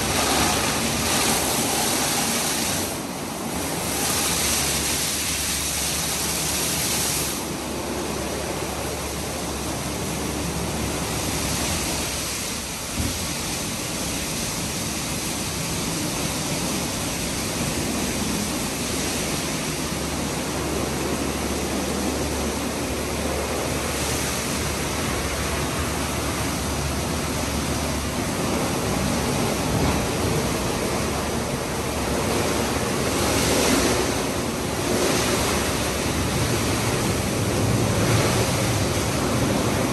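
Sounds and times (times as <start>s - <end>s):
water spraying and splashing: 0.0s - 39.9s.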